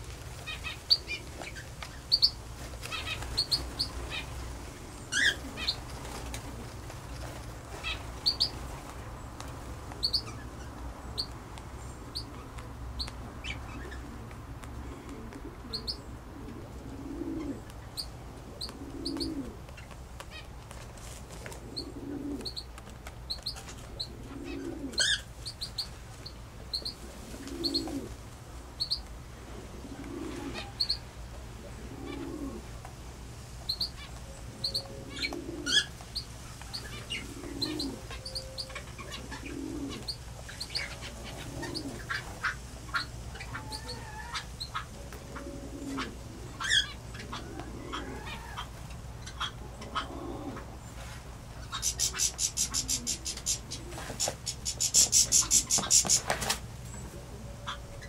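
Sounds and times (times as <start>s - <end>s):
small birds chirping: 0.4s - 20.5s, 21.6s - 28.1s, 28.8s - 29.1s, 30.0s - 31.1s, 33.6s - 58.0s.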